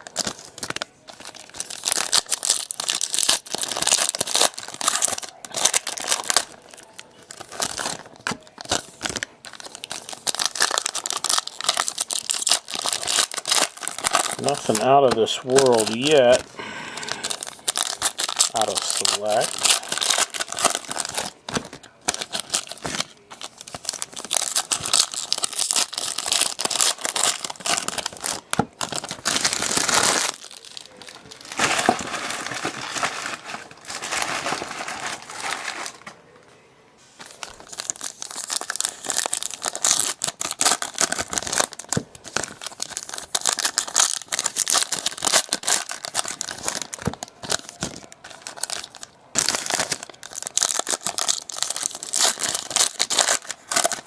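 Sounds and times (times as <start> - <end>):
wrappers crinkling and tearing: 0.0 - 36.2, 37.1 - 54.0.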